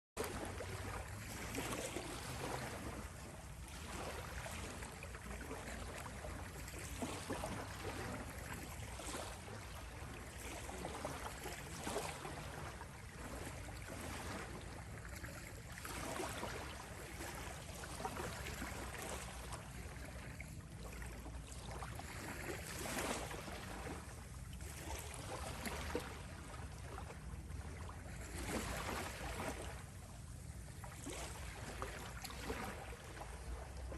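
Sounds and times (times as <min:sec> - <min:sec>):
low rumble of ocean: 0:00.2 - 0:33.9
water sloshing and swishing: 0:00.2 - 0:33.9.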